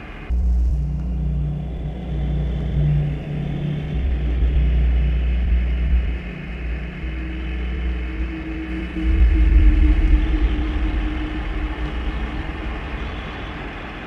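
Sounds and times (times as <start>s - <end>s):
industrial drone music: 0.0s - 14.0s.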